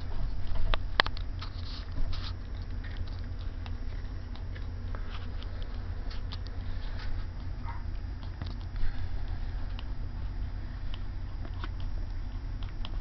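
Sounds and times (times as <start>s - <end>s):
low hum: 0.0s - 13.0s
puppies suckling: 0.0s - 13.0s.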